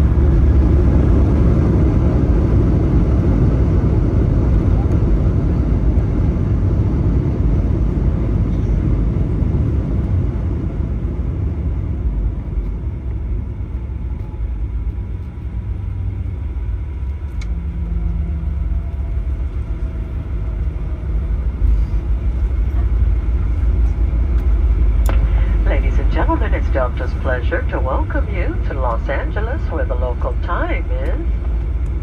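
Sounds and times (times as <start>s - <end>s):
aircraft engines and wheels rumbling: 0.0s - 32.0s.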